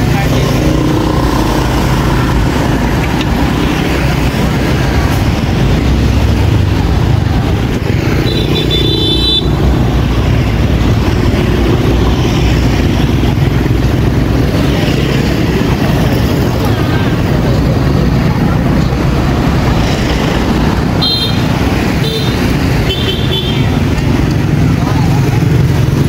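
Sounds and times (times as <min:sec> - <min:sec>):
motorbikes and scooters passing: 0:00.0 - 0:26.0.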